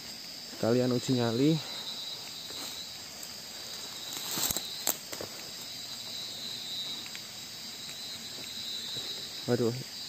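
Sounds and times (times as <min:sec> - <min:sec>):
crackling rustles: 0:00.0 - 0:09.8
night insects chorus: 0:00.0 - 0:10.0.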